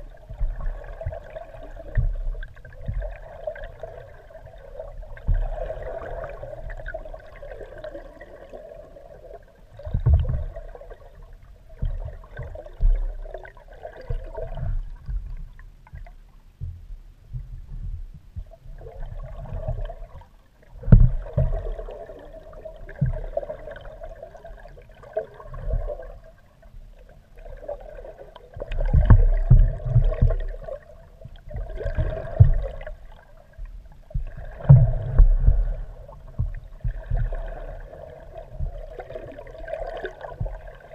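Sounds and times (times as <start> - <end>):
muffled water gurgling and rushing: 0.0 - 40.9.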